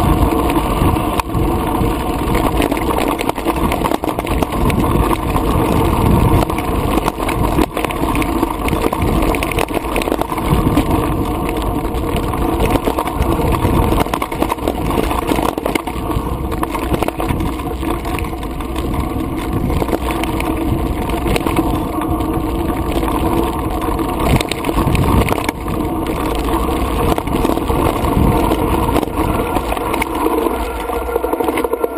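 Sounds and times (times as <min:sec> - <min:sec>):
bike rattling over bumps: 0:00.0 - 0:31.9
rush of riding noise: 0:00.0 - 0:31.9.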